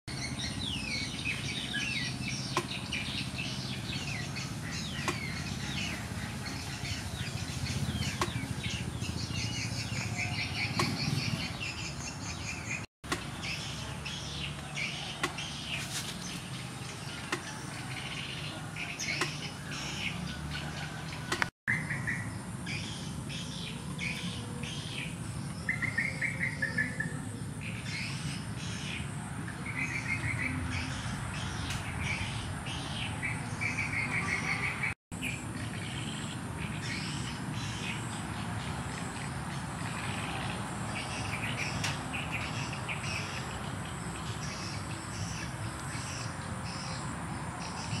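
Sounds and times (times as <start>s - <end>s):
low outdoor background: 0.1s - 48.0s
small birds chirping: 0.1s - 48.0s.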